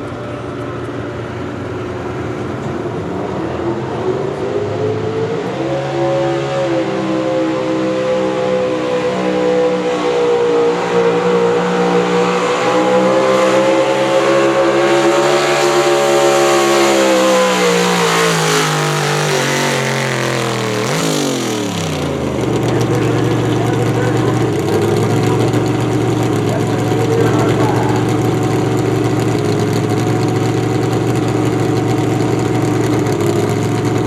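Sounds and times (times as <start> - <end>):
engine running at high revs: 0.0 - 34.0.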